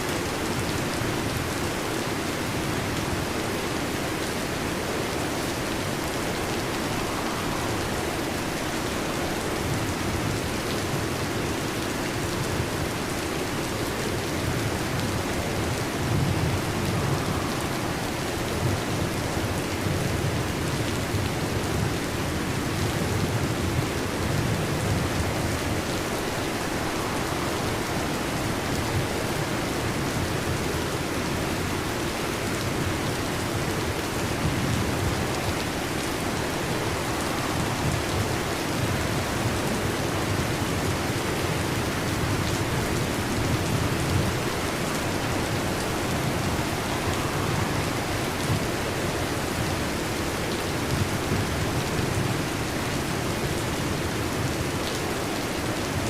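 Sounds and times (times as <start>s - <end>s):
heavy rain falling: 0.0s - 56.0s
low rolls of thunder: 2.4s - 53.4s.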